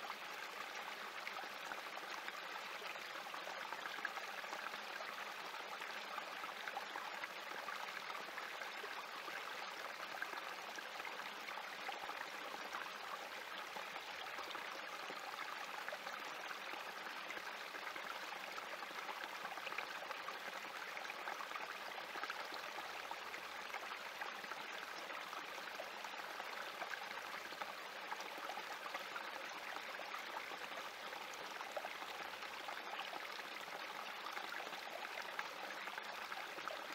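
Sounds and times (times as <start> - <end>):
creek trickling over rocks: 0.0 - 36.9.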